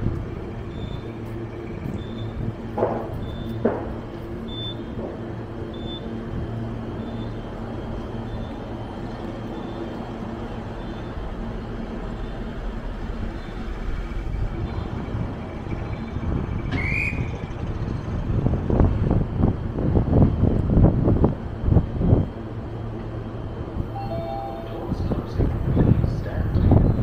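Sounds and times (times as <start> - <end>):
train low hum: 0.0 - 27.0.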